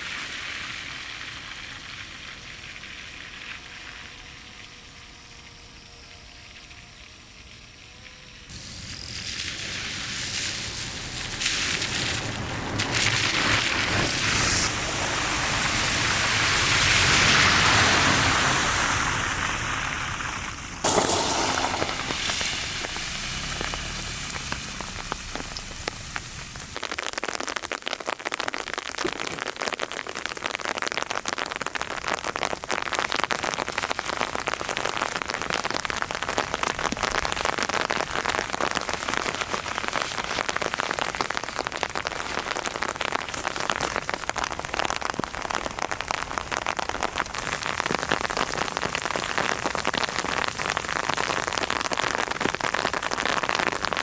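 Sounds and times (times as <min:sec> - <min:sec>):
raindrops pattering on a surface: 0:00.0 - 0:05.6, 0:06.6 - 0:54.0
heavy rain falling: 0:08.6 - 0:54.0.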